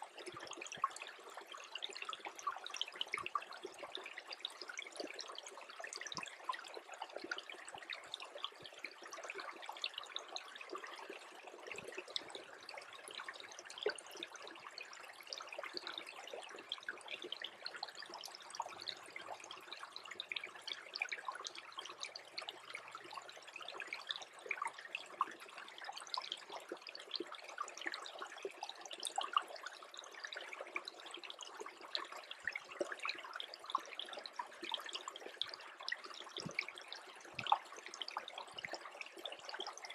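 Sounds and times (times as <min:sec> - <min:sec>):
creek water trickling: 0:00.0 - 0:39.9.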